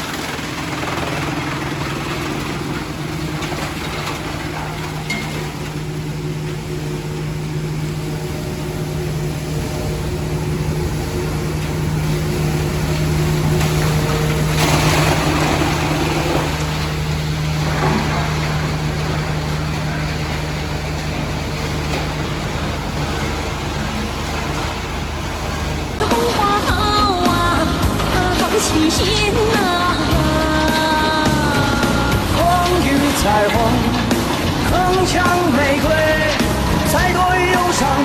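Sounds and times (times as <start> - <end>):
wood chipper engine humming: 0.0 - 38.0
wood chipper rushing: 0.0 - 38.0.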